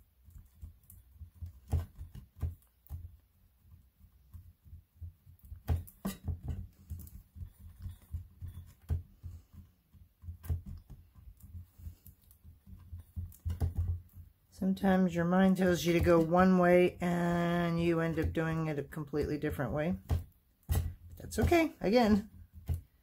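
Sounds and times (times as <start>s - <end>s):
soft thumps of handling clay: 0.1s - 23.0s.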